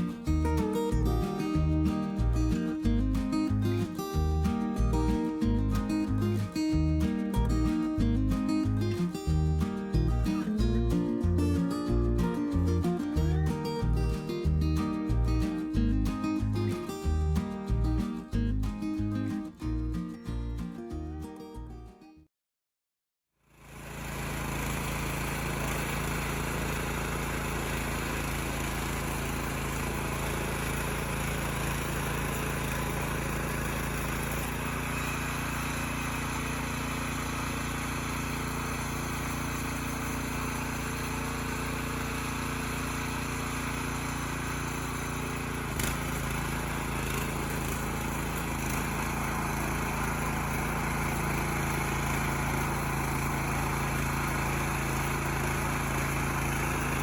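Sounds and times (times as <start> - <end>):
rotary cutters tilling soil: 0.0 - 20.0, 23.8 - 57.0
tiller engine running: 0.0 - 21.3, 23.5 - 57.0.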